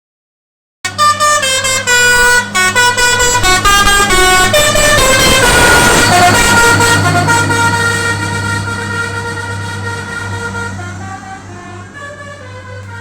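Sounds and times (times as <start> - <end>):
multi-tone air horn tune: 0.8 - 13.0
truck engine running: 0.9 - 13.0.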